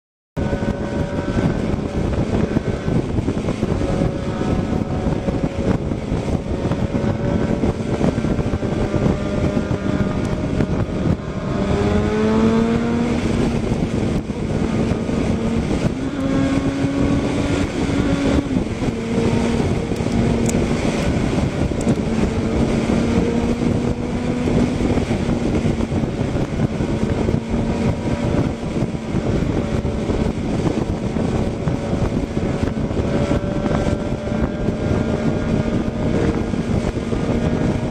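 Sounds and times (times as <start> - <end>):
motorcycle engine at speed: 0.4 - 37.9
wind rushing: 0.4 - 37.9.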